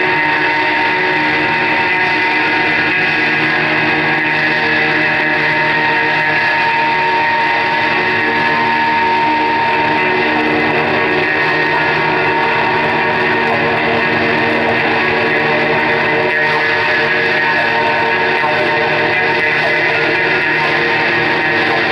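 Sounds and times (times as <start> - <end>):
live electric guitar music: 0.0 - 21.9.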